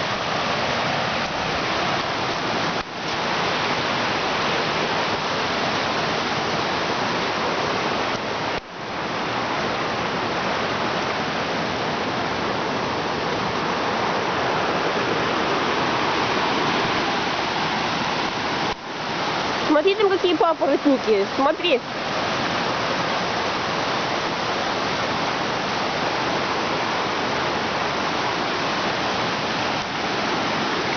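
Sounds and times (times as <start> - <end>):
stream rushing: 0.0 - 30.9.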